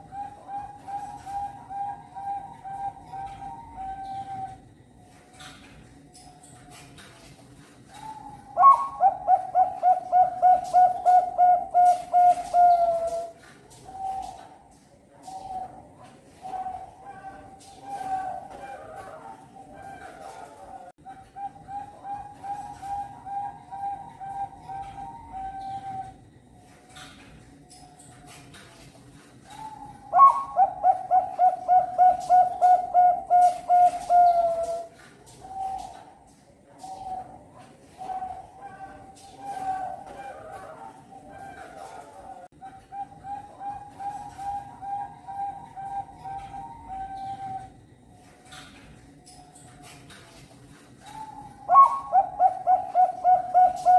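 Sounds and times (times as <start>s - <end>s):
dove cooing: 0.0s - 5.0s, 7.9s - 27.2s, 29.4s - 48.9s, 51.0s - 53.9s.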